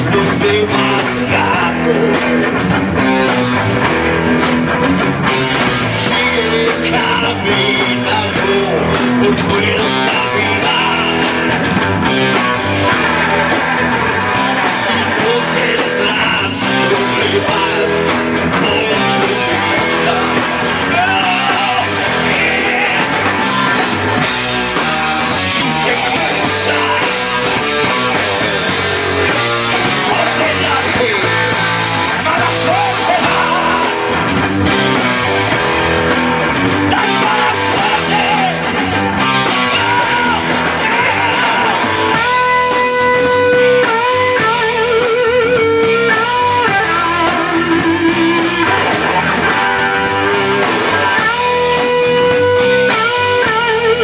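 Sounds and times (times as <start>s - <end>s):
hard rock band playing: 0.0s - 54.0s.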